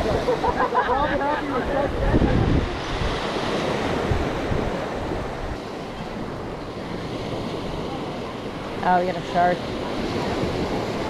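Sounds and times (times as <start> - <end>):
ocean surf breaking on beach: 0.0 - 11.0
wind buffeting microphone: 0.0 - 11.0.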